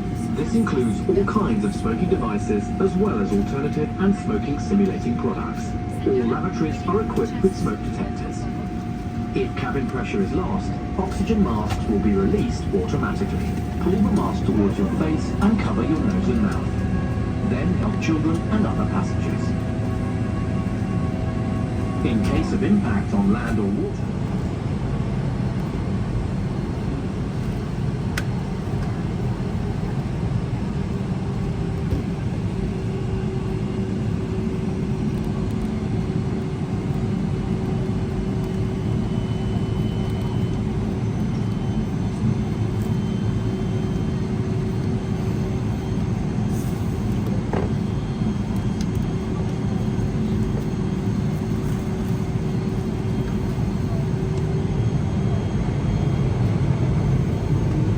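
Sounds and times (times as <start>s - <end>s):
aircraft cabin rumble: 0.0s - 57.9s.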